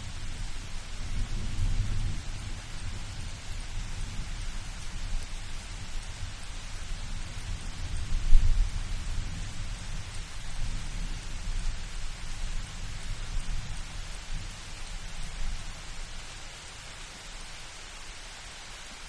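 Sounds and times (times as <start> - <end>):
low rumble of thunder: 0.0 - 15.9
steady rain: 0.0 - 19.0.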